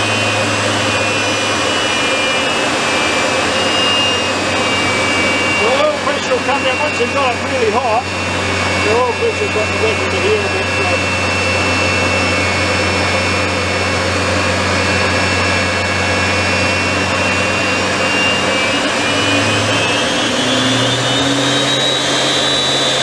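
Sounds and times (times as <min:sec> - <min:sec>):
jet engine whine: 0:00.0 - 0:23.0
low hum: 0:00.0 - 0:23.0.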